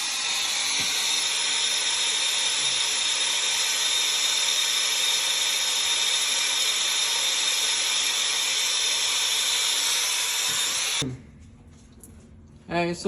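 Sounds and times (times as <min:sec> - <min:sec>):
loud steady hissing: 0:00.0 - 0:11.0.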